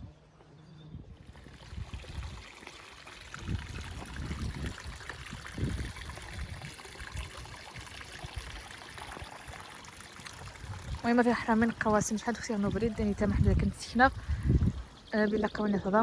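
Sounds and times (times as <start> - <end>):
water trickling: 1.2 - 16.0.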